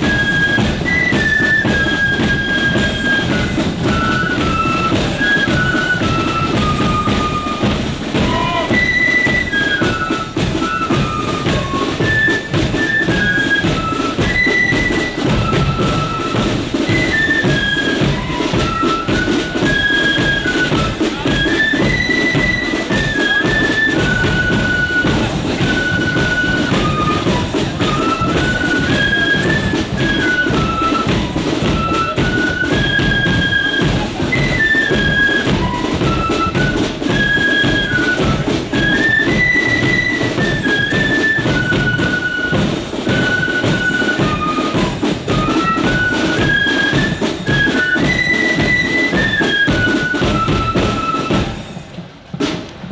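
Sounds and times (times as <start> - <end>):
flute melody: 0.0 - 52.4
bass and snare drumming: 0.0 - 52.9.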